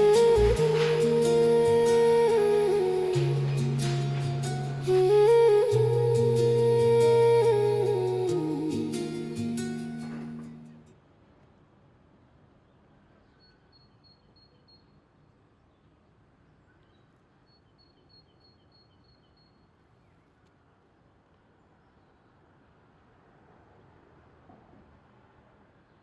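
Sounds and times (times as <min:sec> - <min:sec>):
faint outdoor hiss: 0:00.0 - 0:26.0.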